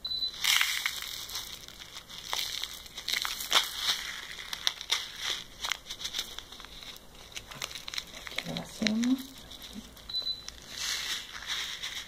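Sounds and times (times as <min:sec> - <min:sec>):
plastic bag crinkling: 0:00.3 - 0:12.0
plastic flakes pouring into cup: 0:00.4 - 0:09.8, 0:10.5 - 0:12.0.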